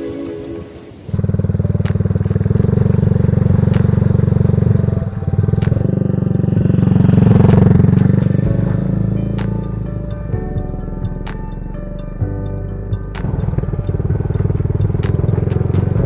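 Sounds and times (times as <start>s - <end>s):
motorcycle engine running: 1.2s - 12.1s, 12.9s - 16.0s.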